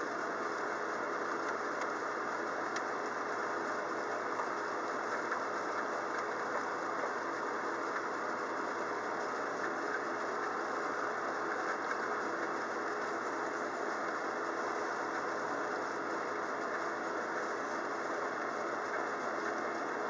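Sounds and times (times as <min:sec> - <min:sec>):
steady rain falling: 0:00.1 - 0:20.0.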